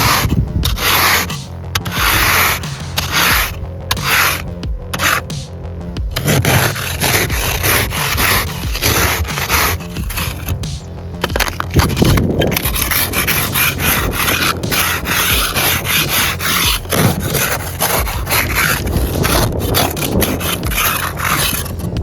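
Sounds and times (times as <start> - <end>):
snow scraper scraping car: 0.0 - 22.0.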